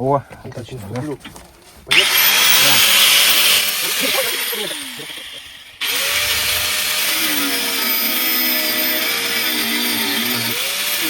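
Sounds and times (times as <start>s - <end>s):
angle grinder cutting metal: 1.9s - 11.0s.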